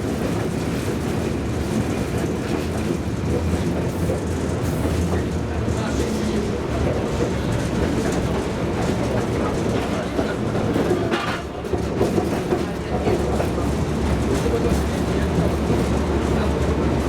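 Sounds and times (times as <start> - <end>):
tram wheels rumbling on track: 0.0 - 17.0.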